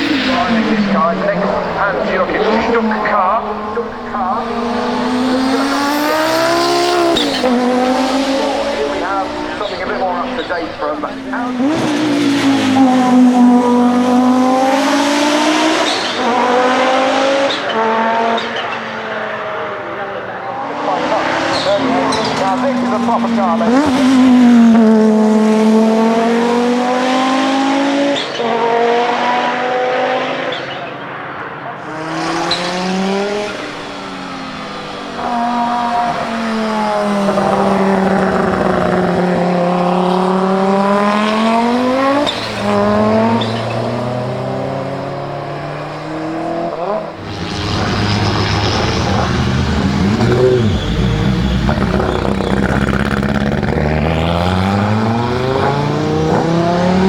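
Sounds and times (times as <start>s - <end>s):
racing engine accelerating through gears: 0.0s - 57.0s.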